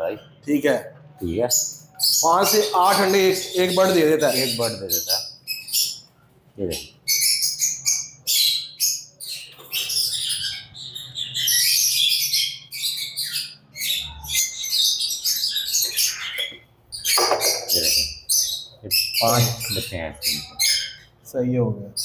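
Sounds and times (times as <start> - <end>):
lovebirds chattering: 0.0 - 22.0.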